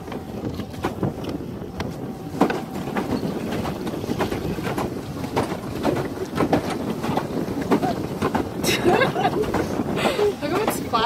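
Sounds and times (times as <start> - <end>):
paddle wheel clicks and knocks: 0.0 - 11.0
pedal boat churning rumble: 0.0 - 11.0.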